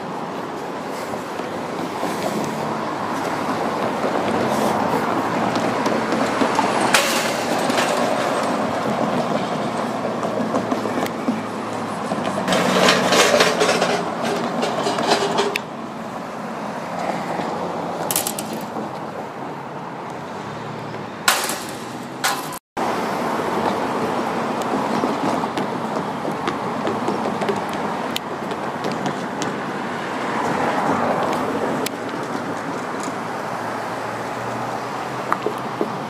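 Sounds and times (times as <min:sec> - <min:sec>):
cars passing on road: 0:00.0 - 0:36.0.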